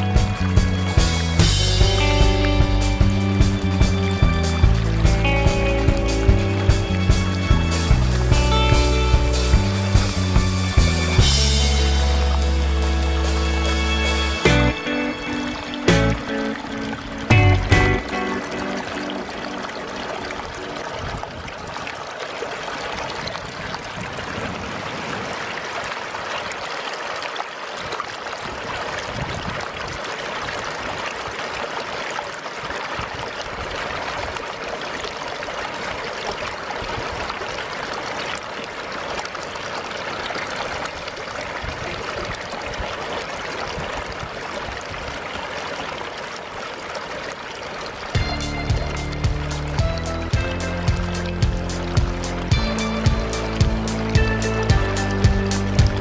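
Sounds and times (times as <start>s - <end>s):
river water rushing and trickling: 0.0s - 56.0s.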